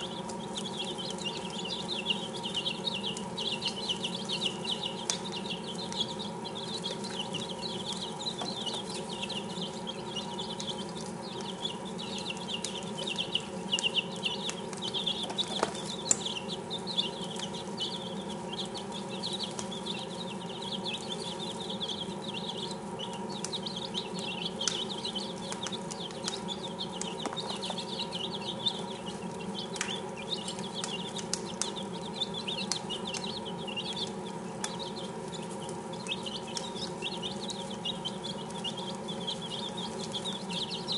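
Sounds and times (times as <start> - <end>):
chicks peeping: 0.0 - 40.9
steady low hum: 0.0 - 40.9
sharp clicks: 0.2 - 18.6, 19.3 - 39.1.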